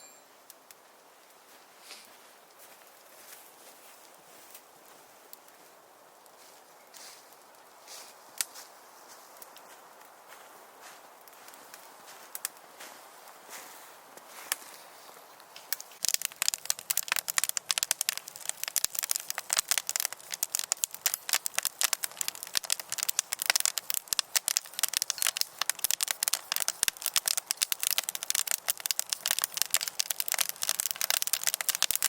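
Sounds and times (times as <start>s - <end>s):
firewood crackling: 0.5s - 32.0s.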